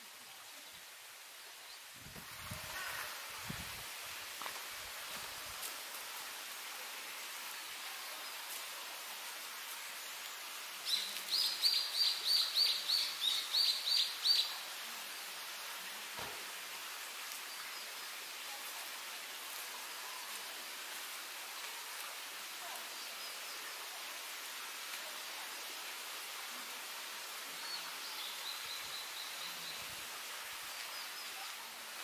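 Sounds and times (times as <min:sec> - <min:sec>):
forest ambience hiss: 0:00.0 - 0:32.0.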